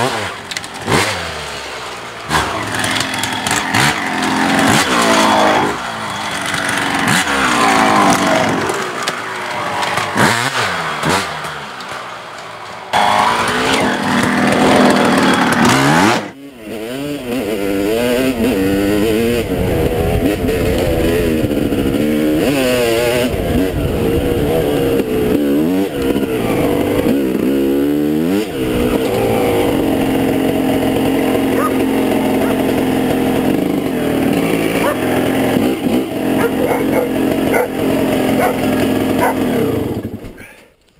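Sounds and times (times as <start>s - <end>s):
dirt bike engine revving: 0.0s - 40.4s.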